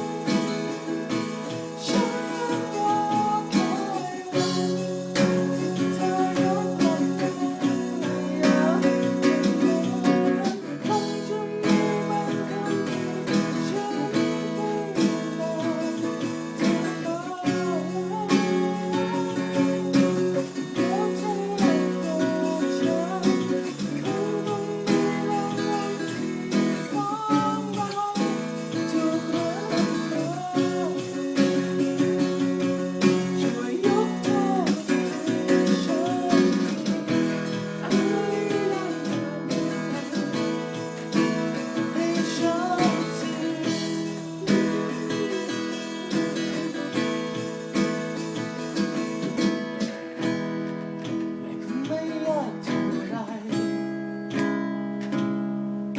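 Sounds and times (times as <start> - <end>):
acoustic guitar music: 0.0 - 55.9.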